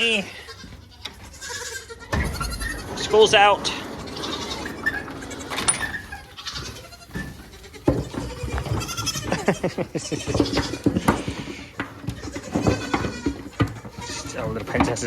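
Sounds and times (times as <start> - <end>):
baby goats bleating: 0.0 - 15.0
knocks and rustling: 2.0 - 15.0.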